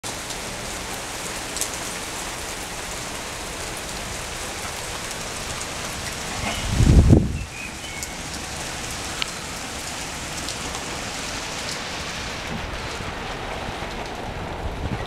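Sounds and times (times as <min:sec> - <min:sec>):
rain on plants: 0:00.0 - 0:15.0.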